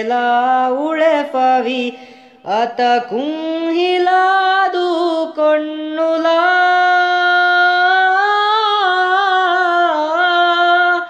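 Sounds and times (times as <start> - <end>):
young man singing unaccompanied: 0.0 - 11.0.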